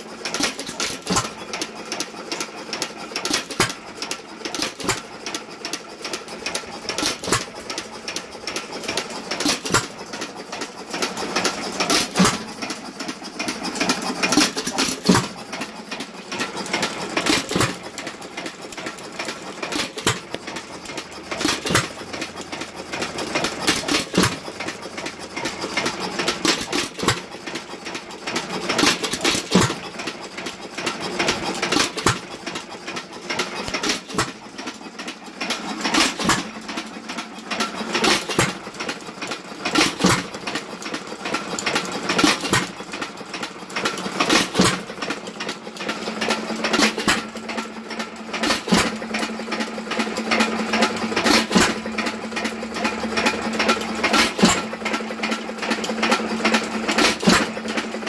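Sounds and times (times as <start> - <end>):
hit-and-miss engine running: 0.1 - 58.0.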